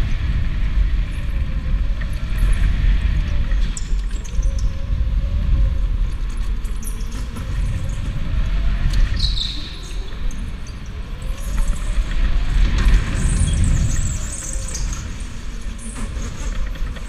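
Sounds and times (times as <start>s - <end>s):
go-kart low rumble: 0.0s - 17.0s.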